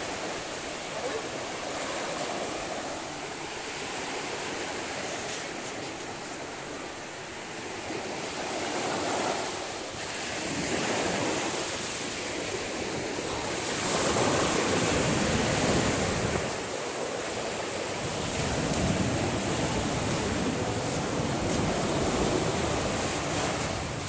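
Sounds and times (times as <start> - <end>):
small waves breaking on sand: 0.0 - 24.0
wind buffeting microphone: 0.0 - 24.0.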